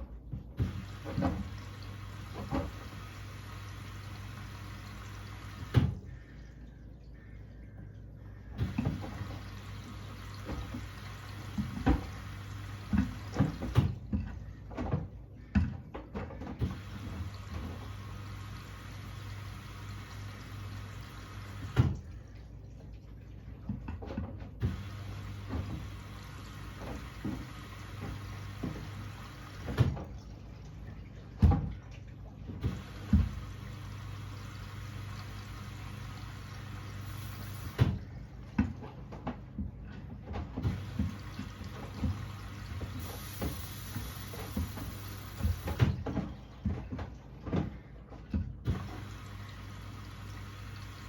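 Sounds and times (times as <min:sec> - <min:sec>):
water sloshing in drum: 0:00.0 - 0:51.0.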